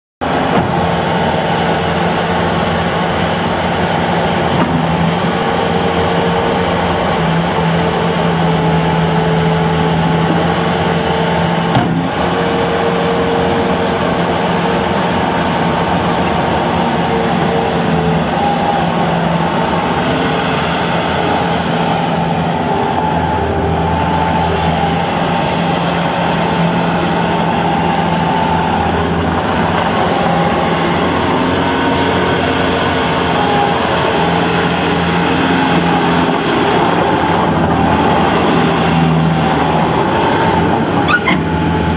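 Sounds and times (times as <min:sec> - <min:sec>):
diesel engine running: 0:00.2 - 0:41.9.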